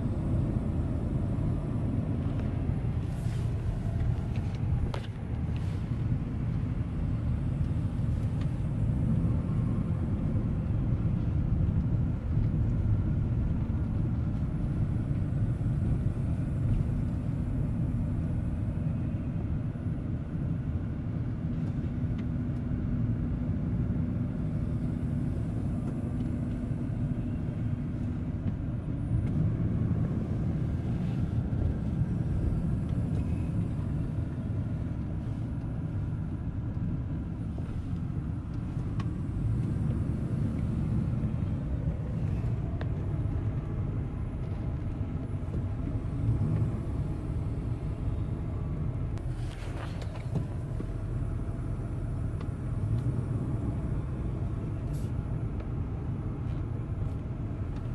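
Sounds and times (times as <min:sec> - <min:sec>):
road and engine noise in car: 0:00.0 - 0:57.9.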